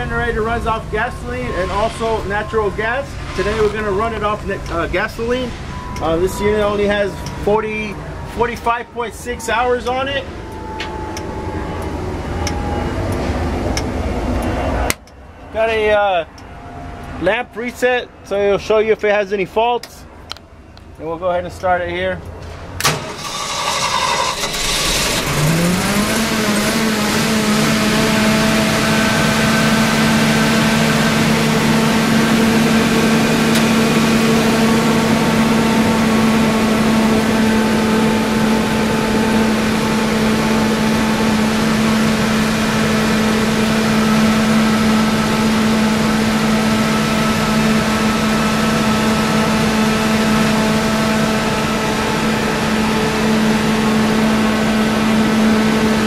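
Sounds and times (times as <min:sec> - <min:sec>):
generator engine starting and running: 0:00.0 - 0:19.3, 0:20.0 - 0:56.0.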